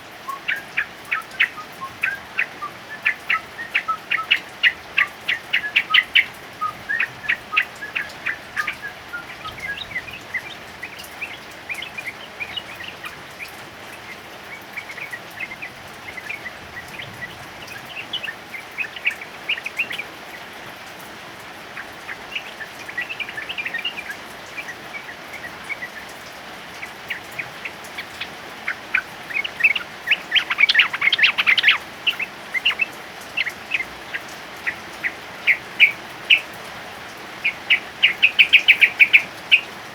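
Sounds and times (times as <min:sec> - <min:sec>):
bird chirping: 0:00.0 - 0:39.9
rain hiss: 0:00.0 - 0:39.9.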